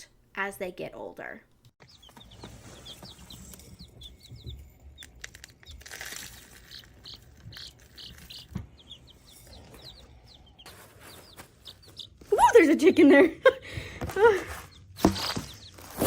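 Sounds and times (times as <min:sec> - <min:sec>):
chicks peeping: 0:01.8 - 0:16.0.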